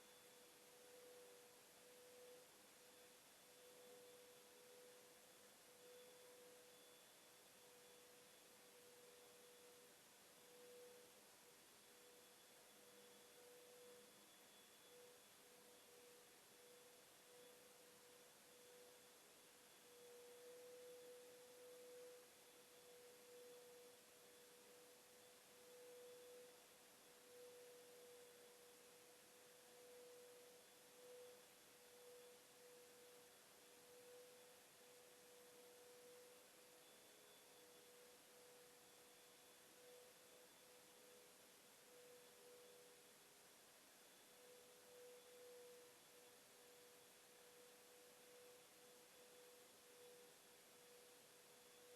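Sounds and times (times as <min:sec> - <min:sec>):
faint steady mid-pitched tone: 0:00.0 - 0:51.9.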